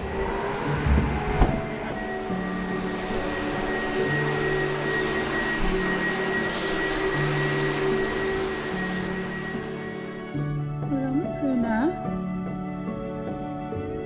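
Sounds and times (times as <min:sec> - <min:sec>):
vacuum cleaner running over rug: 0:00.0 - 0:14.0.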